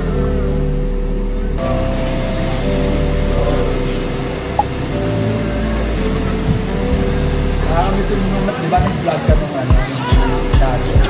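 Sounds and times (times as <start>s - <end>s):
mellow background music: 0.0s - 11.0s
room noise hiss: 0.0s - 11.0s.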